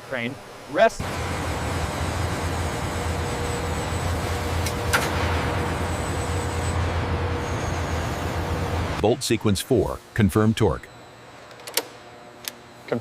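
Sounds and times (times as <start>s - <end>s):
low mechanical rumble with hiss: 0.0s - 13.0s.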